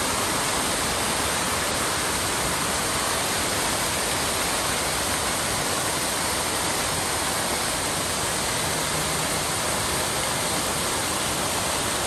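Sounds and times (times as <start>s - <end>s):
waterfall and rushing stream: 0.0s - 12.0s.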